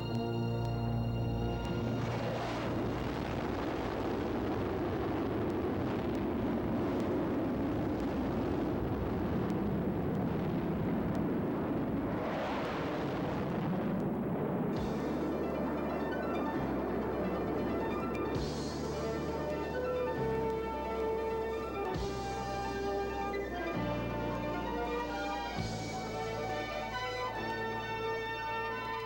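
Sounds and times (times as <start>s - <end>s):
airplane engine roar: 0.0s - 29.0s.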